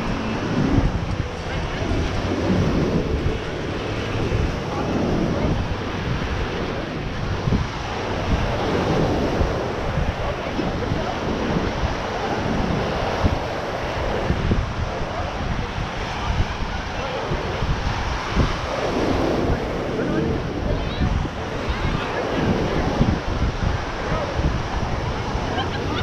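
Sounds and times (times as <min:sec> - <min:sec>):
ocean surf on sandy beach: 0:00.0 - 0:26.0
wind buffeting microphone: 0:00.0 - 0:26.0.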